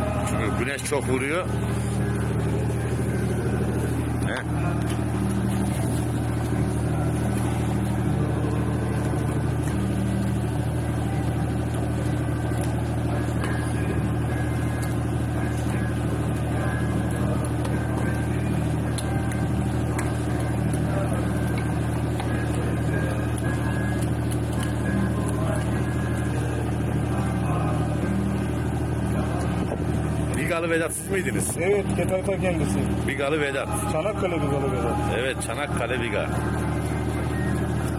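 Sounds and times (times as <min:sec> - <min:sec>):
low mechanical drone: 0:00.0 - 0:37.9.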